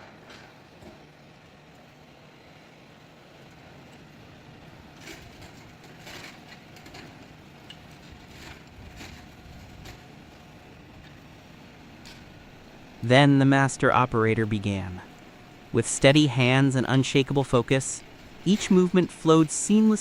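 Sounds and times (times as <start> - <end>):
low engine rumble: 0.2 - 20.0.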